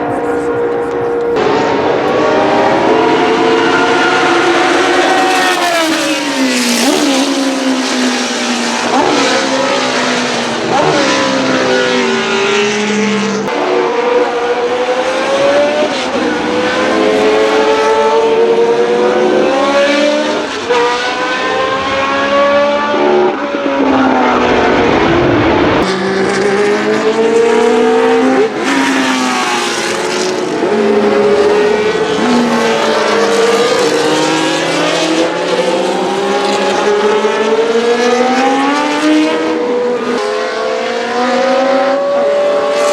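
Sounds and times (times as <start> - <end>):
racing car engine revving: 0.0 - 42.9.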